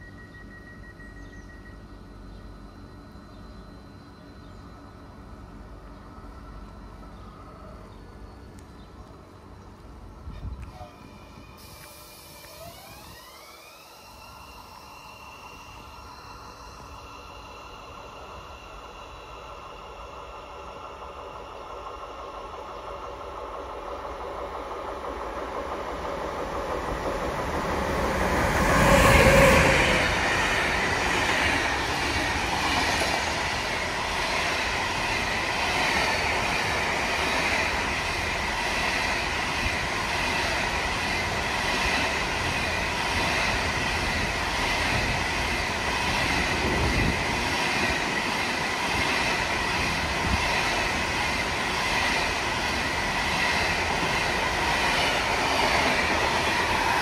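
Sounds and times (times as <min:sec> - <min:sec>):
train passing: 0:00.0 - 0:57.0
train wheels rolling on rails: 0:00.0 - 0:57.0.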